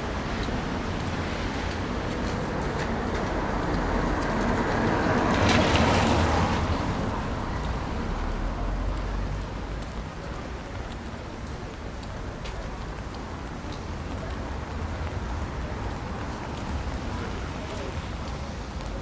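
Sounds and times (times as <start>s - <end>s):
rain: 0.0s - 19.0s
street noise: 0.0s - 19.0s
vehicle passing on wet street: 0.0s - 19.0s.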